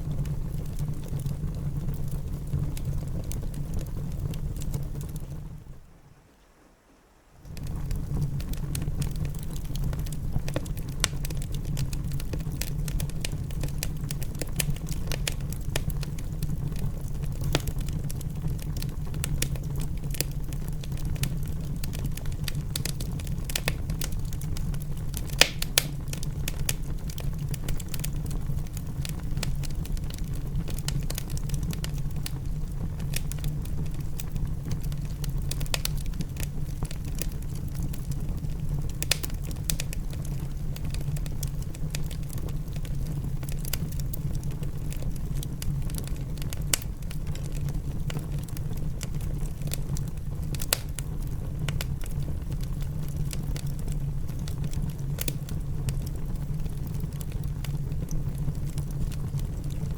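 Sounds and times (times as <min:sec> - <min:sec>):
wood fire crackling: 0:00.0 - 0:05.9, 0:07.4 - 0:59.9.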